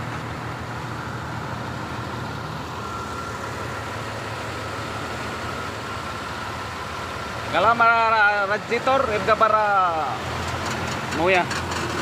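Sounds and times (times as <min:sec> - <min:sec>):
heavy diesel engine idling: 0:00.0 - 0:12.0
thin steady whine: 0:00.1 - 0:10.2.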